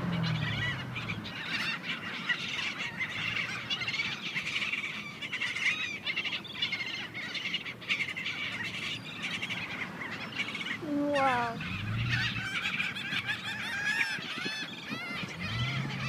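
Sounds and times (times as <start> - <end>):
gulls calling: 0.0 - 16.0.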